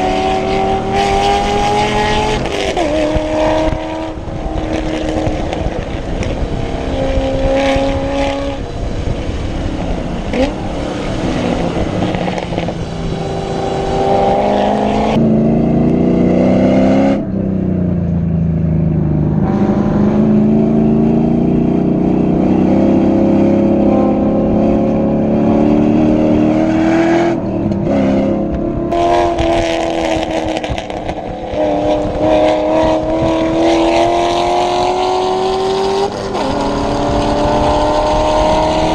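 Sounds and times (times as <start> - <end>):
race car engine accelerating: 0.0 - 17.4, 18.8 - 38.9.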